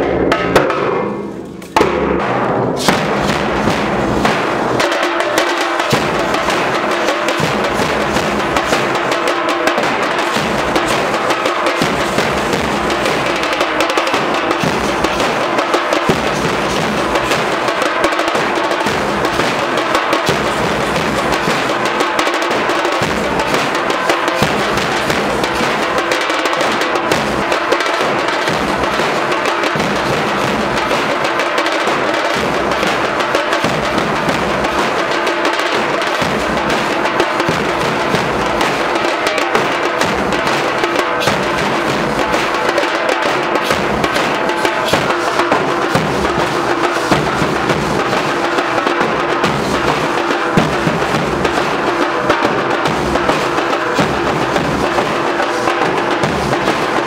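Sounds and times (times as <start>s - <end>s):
drum band playing: 0.0s - 57.0s.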